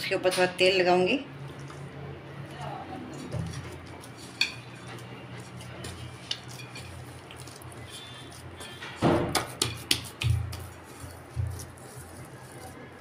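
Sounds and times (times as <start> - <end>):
hands working dough: 1.4 - 13.0.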